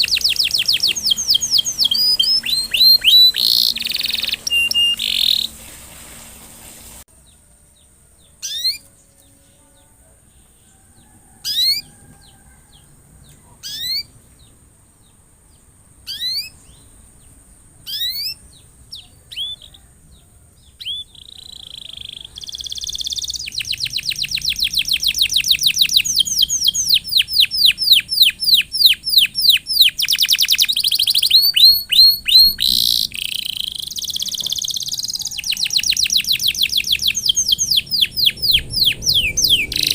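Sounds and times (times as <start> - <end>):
canary chirping: 0.0 - 5.6, 7.2 - 39.9
canary trilling: 0.0 - 5.6, 8.2 - 9.6, 10.8 - 14.2, 16.0 - 16.8, 17.8 - 39.9.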